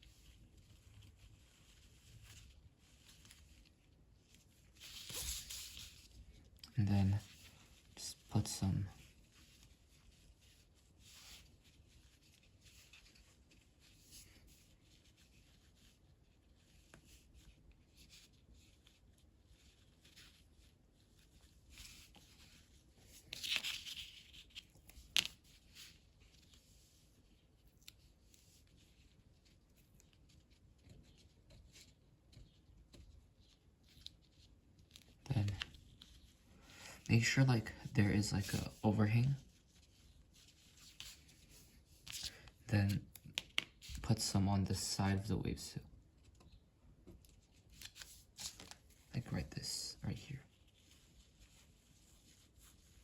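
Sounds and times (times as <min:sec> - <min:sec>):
tissue paper crinkling: 0:00.0 - 0:44.0, 0:47.3 - 0:49.4, 0:50.1 - 0:53.0.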